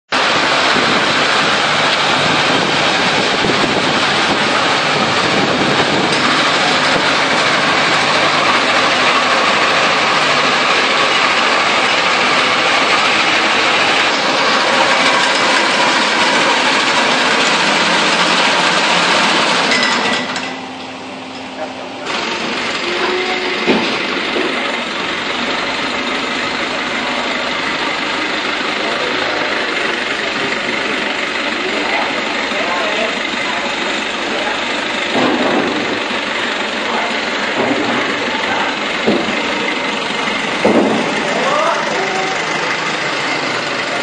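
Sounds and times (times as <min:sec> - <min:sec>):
forklift idling: 0:00.1 - 0:44.0
reaper engine and cutter running: 0:00.1 - 0:44.0.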